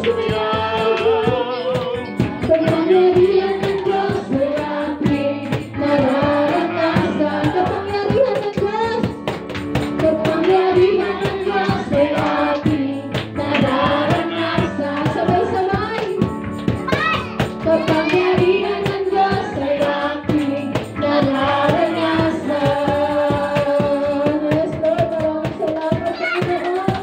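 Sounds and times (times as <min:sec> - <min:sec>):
voices singing: 0:00.0 - 0:09.0, 0:10.0 - 0:16.2, 0:16.9 - 0:27.0
instrumental accompaniment: 0:00.0 - 0:27.0
percussion beat: 0:00.0 - 0:27.0.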